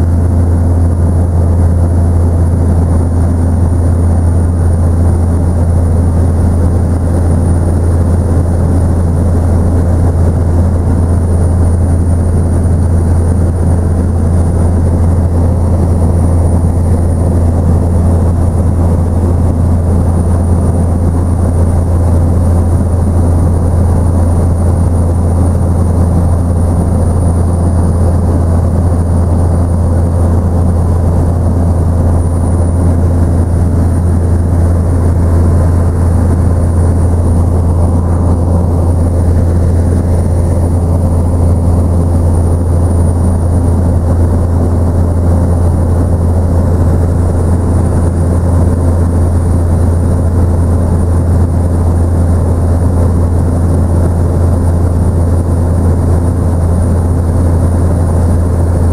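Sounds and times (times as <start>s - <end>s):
helicopter rotor and engine drone: 0.0s - 58.9s.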